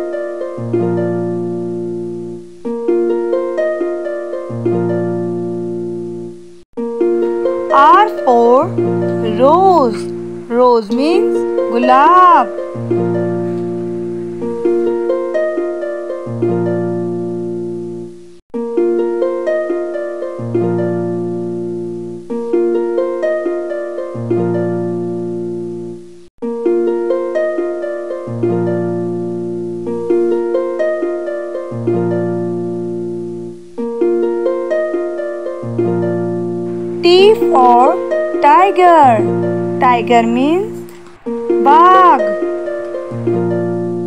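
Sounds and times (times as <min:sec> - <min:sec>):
gentle plucked music: 0:00.0 - 0:44.0.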